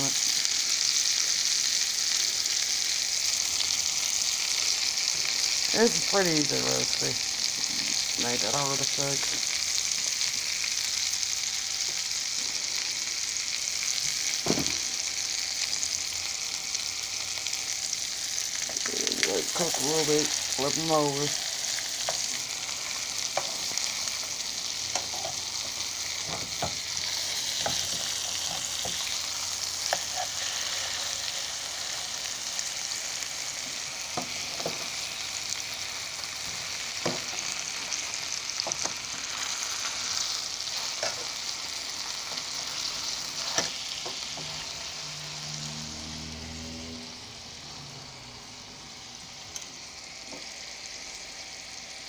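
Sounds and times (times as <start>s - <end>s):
chicken sizzling in butter in a skillet: 0.0s - 52.0s.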